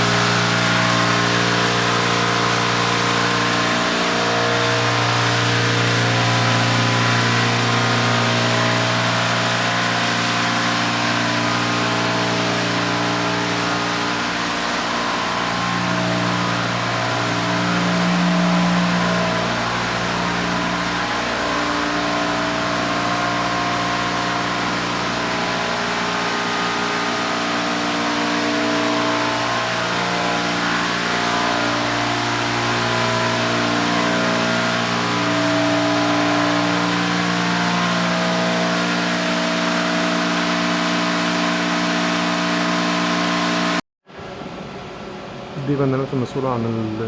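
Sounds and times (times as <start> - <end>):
pump motor humming: 0.0 - 43.8.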